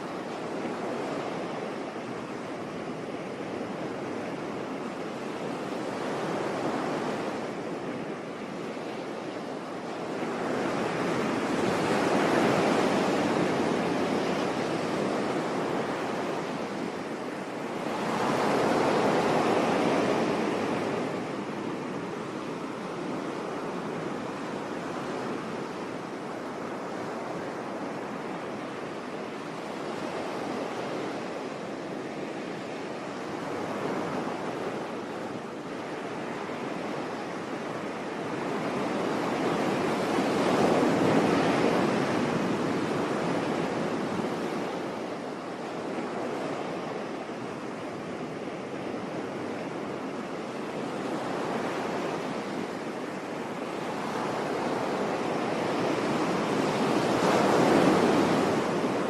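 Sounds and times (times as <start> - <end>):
surf rushing on shore: 0.0 - 59.0.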